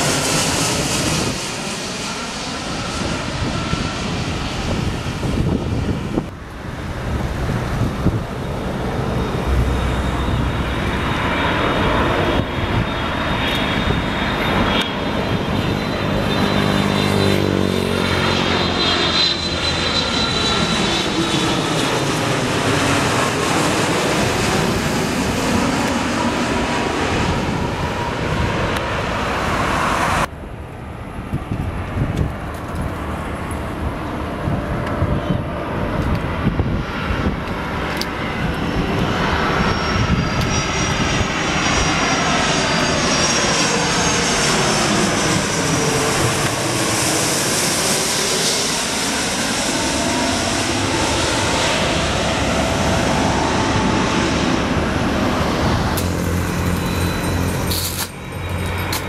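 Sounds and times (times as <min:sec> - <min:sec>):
high engine whine: 0:00.0 - 0:59.0
jet engines flying overhead: 0:00.0 - 0:59.0.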